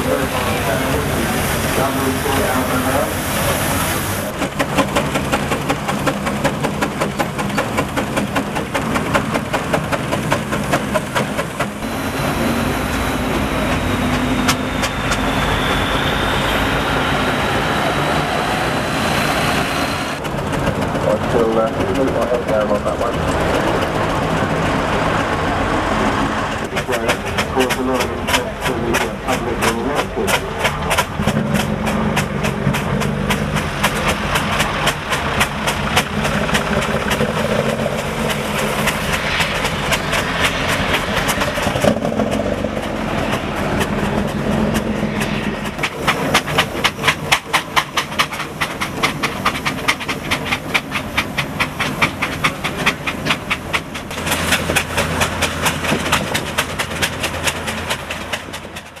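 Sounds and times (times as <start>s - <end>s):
steam hiss: 0.0s - 20.2s, 26.7s - 41.8s, 45.0s - 58.5s
low engine note: 0.0s - 59.0s
steam engines chuffing: 0.0s - 59.0s.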